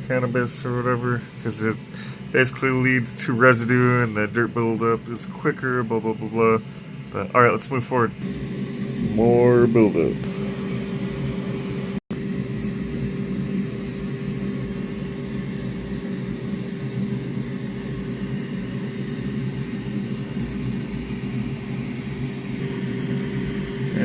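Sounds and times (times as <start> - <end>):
machine hum with low tones: 0.0 - 24.0.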